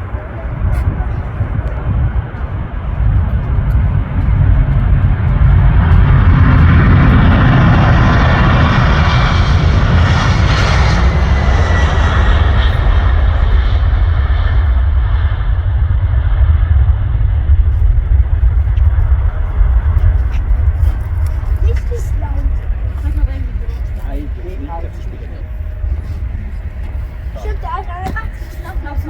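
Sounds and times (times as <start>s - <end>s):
deep rumble: 0.0s - 29.0s
jet engines roaring: 0.0s - 29.0s.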